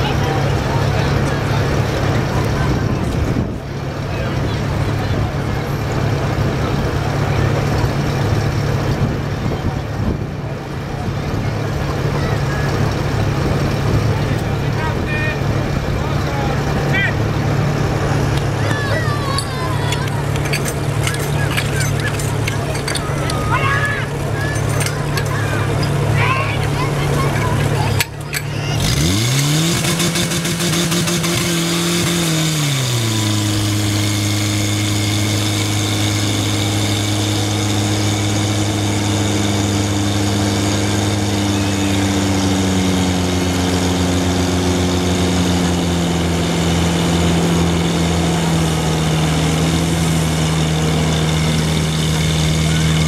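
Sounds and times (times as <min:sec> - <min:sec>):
pump engine revving: 0:00.0 - 0:53.0.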